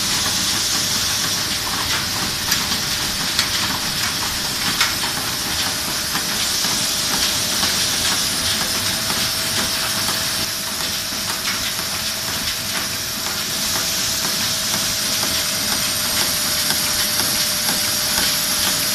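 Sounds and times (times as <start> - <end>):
machine high hiss: 0.0 - 18.9.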